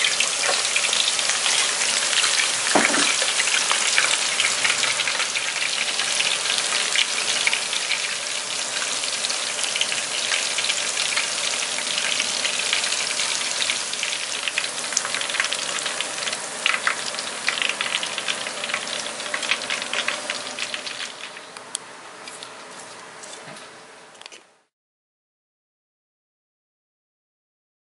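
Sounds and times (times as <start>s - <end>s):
deep-frying sizzle with pops: 0.0s - 23.8s.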